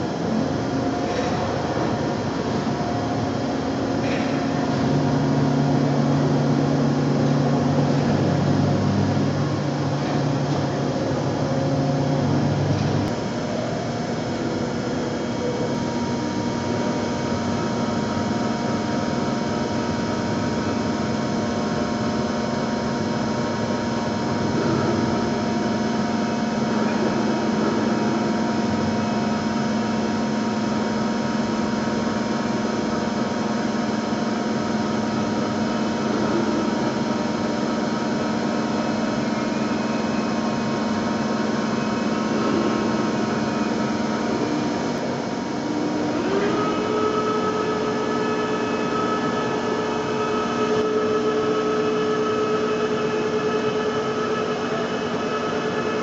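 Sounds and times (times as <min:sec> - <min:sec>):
milling machine droning: 0:00.0 - 0:56.0.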